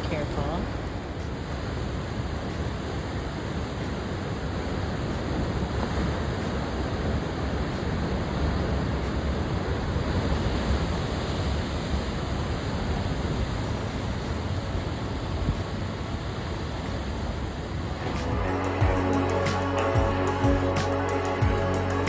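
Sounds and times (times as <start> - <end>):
ocean surf: 0.0 - 22.0.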